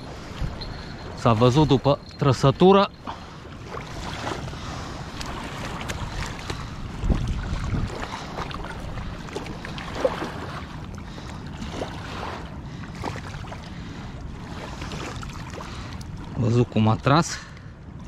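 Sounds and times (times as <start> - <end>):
wind buffeting microphone: 0.0 - 16.8
river water lapping: 0.0 - 18.0.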